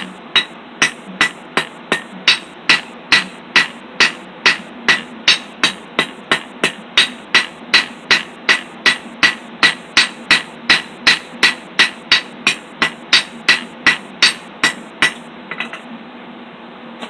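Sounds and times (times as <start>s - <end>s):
hammer striking steel on anvil: 0.0s - 15.8s.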